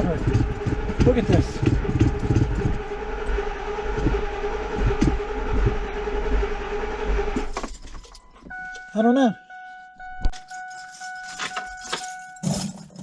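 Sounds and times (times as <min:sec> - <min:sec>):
engine cranking without starting: 0:00.0 - 0:08.8, 0:10.4 - 0:13.0.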